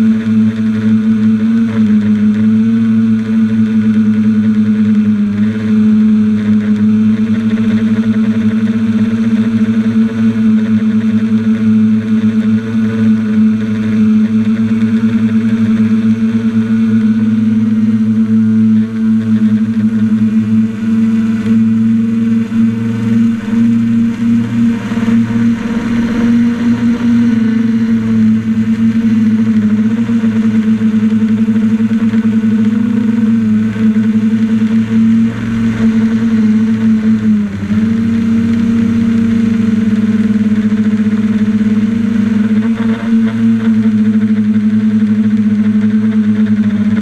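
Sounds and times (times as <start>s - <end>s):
drone motors and propellers humming: 0.0s - 47.0s.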